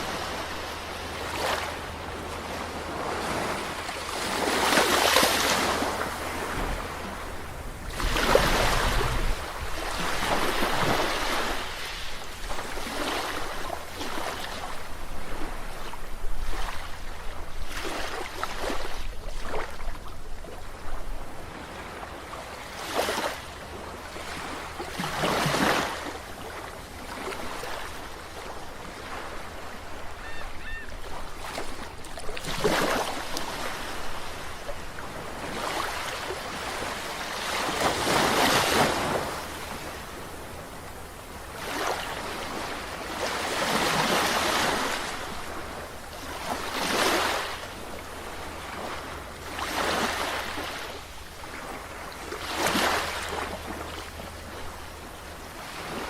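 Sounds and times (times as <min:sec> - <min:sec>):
low rumble of surf: 0:00.0 - 0:56.0
ocean waves breaking on shore: 0:00.0 - 0:56.0.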